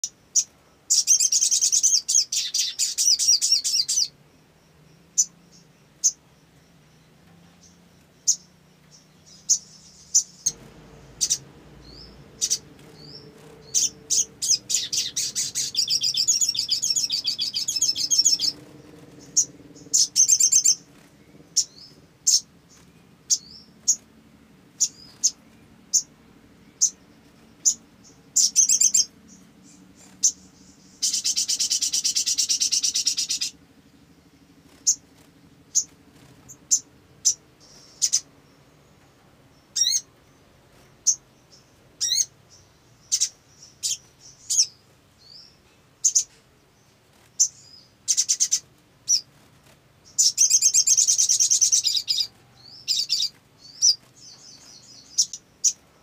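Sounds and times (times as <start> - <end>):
bird twittering trills: 0.0 - 56.0.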